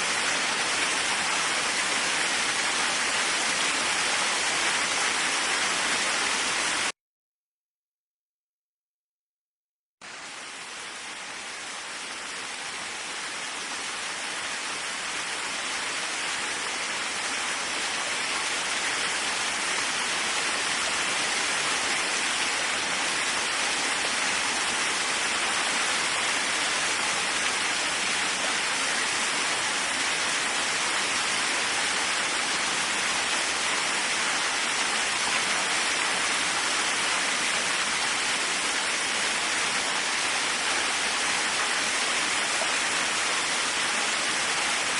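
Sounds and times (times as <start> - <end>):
waterfall rushing: 0.0 - 6.9, 10.1 - 44.9.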